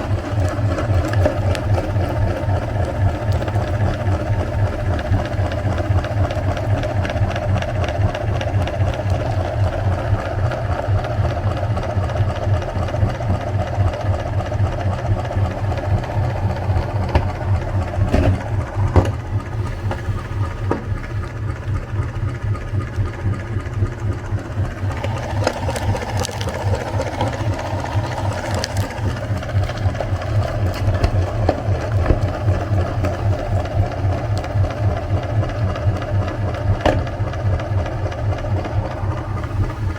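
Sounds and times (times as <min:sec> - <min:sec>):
electric meat grinder running: 0:00.0 - 0:39.9.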